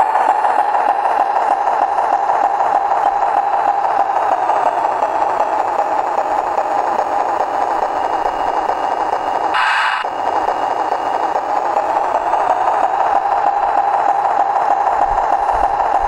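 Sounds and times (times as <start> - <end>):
diesel railcar engine rattling: 0.0 - 16.0.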